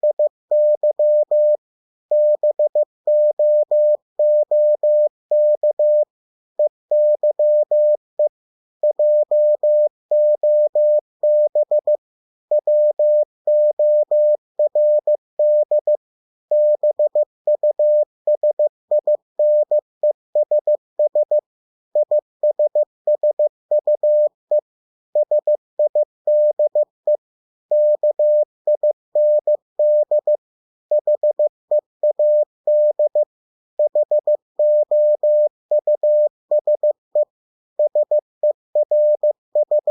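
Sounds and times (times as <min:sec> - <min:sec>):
morse code beeps: 0:00.0 - 0:19.8, 0:20.4 - 0:21.4, 0:22.0 - 0:24.3, 0:25.2 - 0:39.9.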